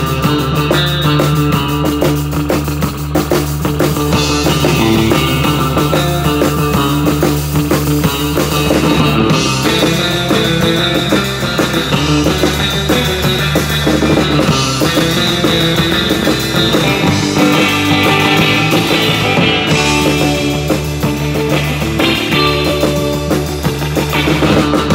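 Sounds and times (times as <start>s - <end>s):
drum kit: 0.0s - 24.9s
second electric guitar: 0.0s - 24.9s
twangy electric guitar lead: 0.0s - 24.9s.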